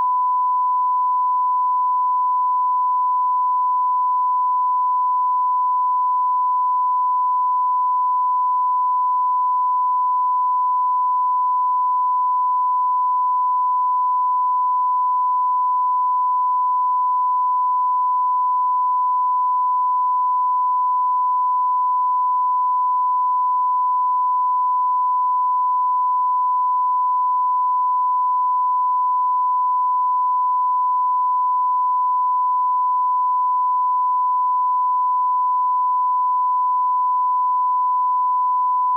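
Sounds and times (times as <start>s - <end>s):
censor bleep tone: 0.0s - 38.9s.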